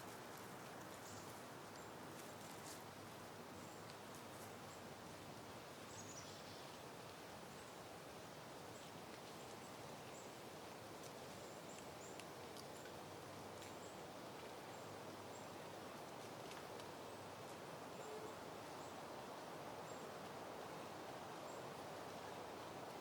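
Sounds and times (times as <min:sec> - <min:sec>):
soft wind through plants: 0:00.0 - 0:23.0.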